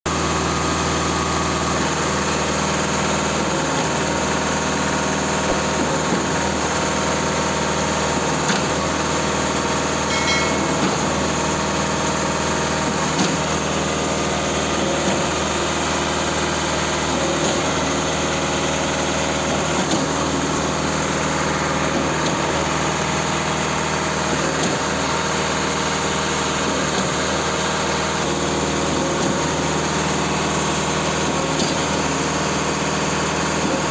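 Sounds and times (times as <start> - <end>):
concrete pump engine running: 0.1 - 33.9.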